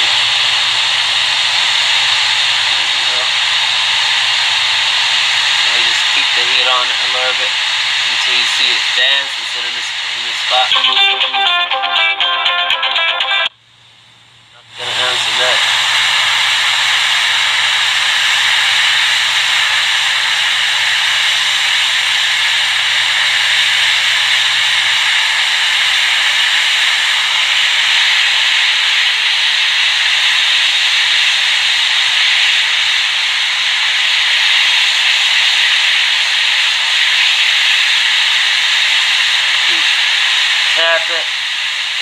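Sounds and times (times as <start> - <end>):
hot air hissing: 0.0 - 10.9, 14.7 - 42.0.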